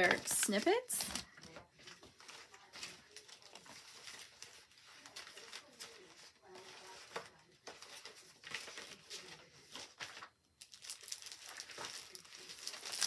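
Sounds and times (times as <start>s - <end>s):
paper packaging rustling: 0.0s - 13.0s.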